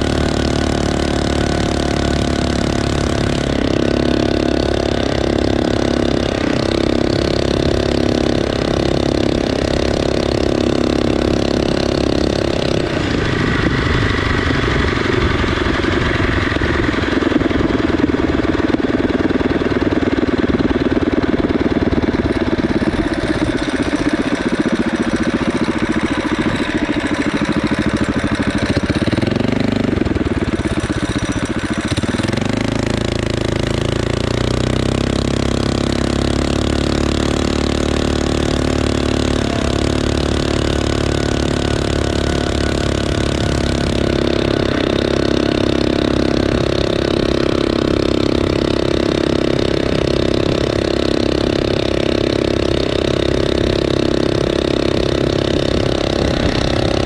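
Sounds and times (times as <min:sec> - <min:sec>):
small motorbike engine running: 0:00.0 - 0:57.0.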